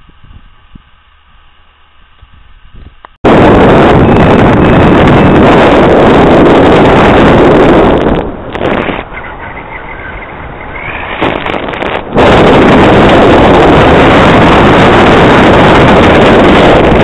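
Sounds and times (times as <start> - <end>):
wind buffeting microphone: 0.0 - 1.0, 2.1 - 17.0.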